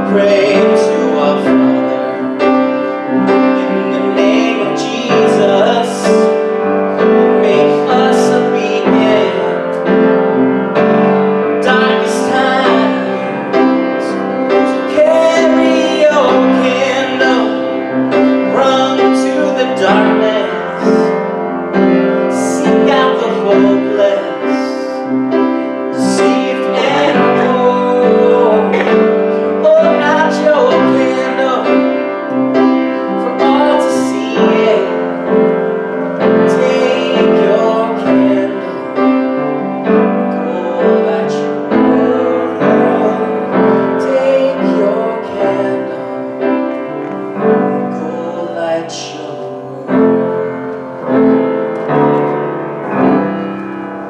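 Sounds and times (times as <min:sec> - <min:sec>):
person singing: 0:00.0 - 0:53.7
piano playing sustained chords: 0:00.0 - 0:54.0.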